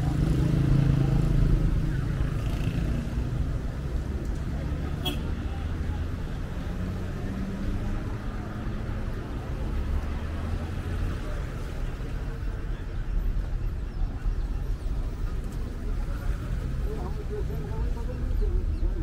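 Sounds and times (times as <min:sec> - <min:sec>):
murmur of voices: 0:00.0 - 0:19.0.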